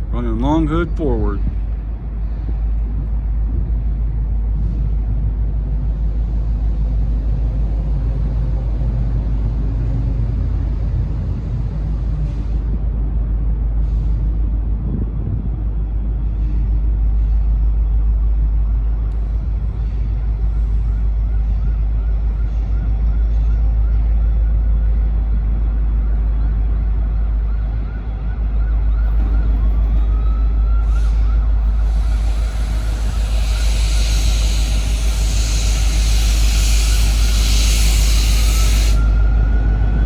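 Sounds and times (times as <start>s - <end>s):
diesel locomotive engine rumble: 0.0s - 40.0s.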